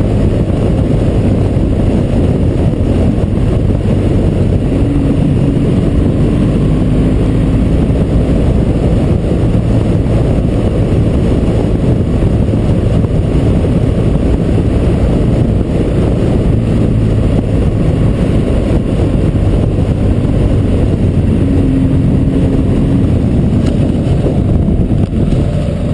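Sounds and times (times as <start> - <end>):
motorcycle engine and road rumble: 0.0 - 25.9
wind buffeting on microphone: 0.0 - 25.9.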